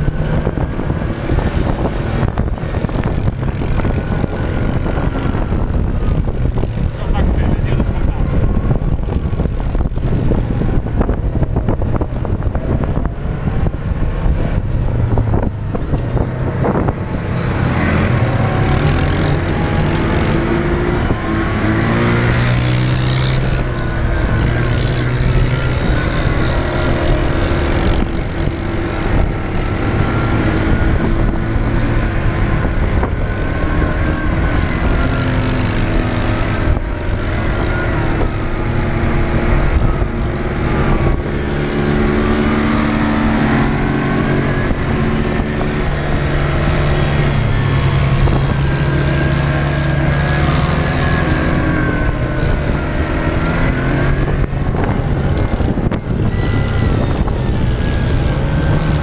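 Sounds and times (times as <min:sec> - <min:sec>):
dune buggy engine running: 0:00.0 - 0:59.0
wind noise: 0:00.0 - 0:59.0.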